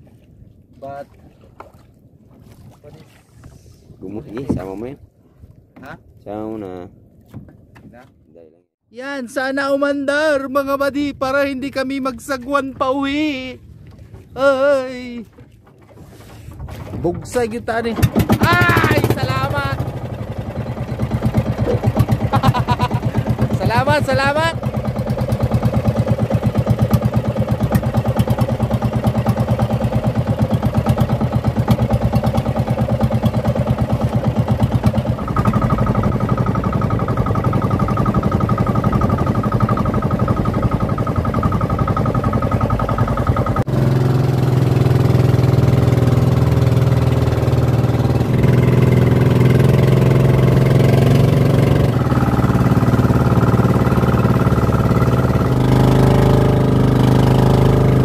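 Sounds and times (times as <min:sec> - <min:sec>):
boat engine running: 0:00.0 - 0:08.3, 0:09.4 - 0:58.0.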